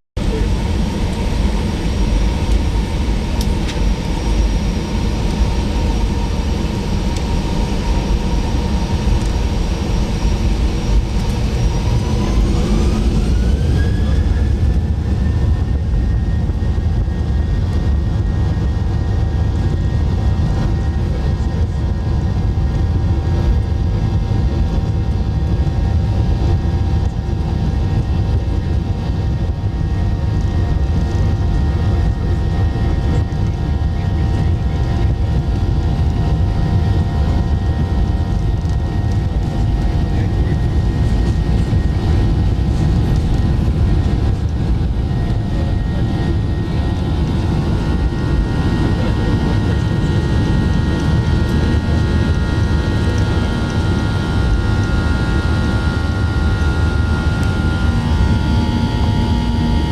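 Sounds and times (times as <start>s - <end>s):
jet engine cabin rumble: 0.2s - 59.9s.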